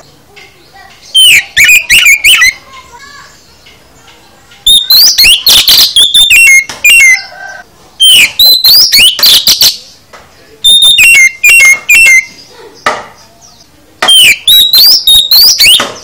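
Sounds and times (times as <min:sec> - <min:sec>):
songbird singing varied song: 0:00.0 - 0:16.0.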